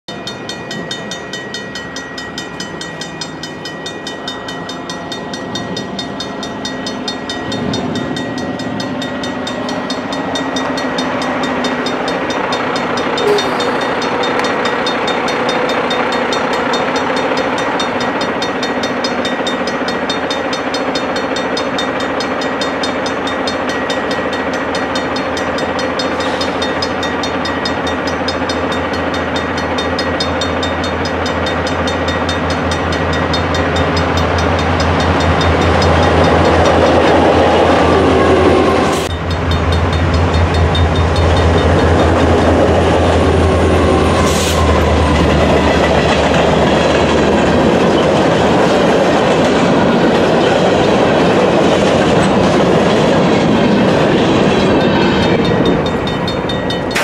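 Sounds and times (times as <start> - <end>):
diesel locomotive engines: 0.1 - 57.0
rail noise: 0.1 - 57.0.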